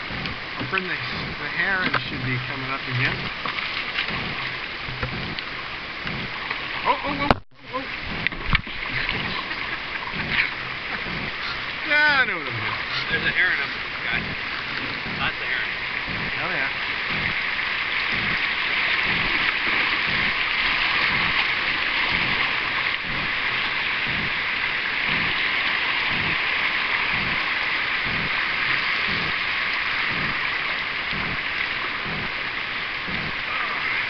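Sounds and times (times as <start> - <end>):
faint low thuds: 0.0 - 6.6, 7.3 - 11.8, 12.5 - 33.5
river water rushing over rocks: 0.0 - 34.0.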